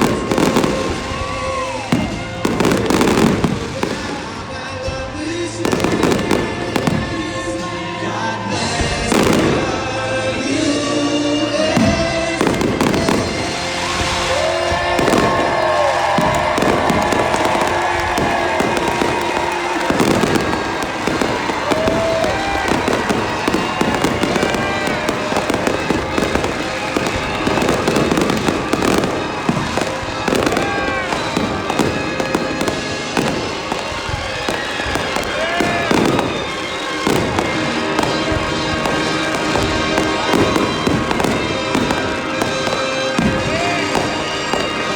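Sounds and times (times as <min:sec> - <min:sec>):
fireworks bursting: 0:00.0 - 0:44.9
music playing: 0:00.0 - 0:44.9.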